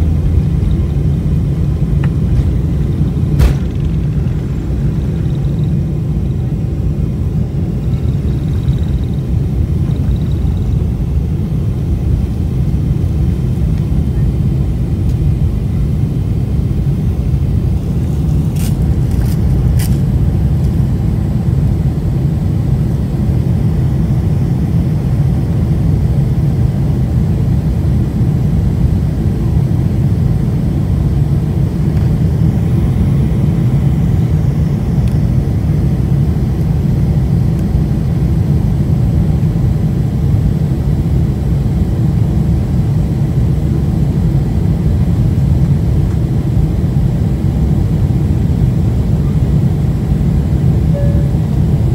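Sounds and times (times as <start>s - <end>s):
jet engines rumbling in cabin: 0.0s - 51.9s.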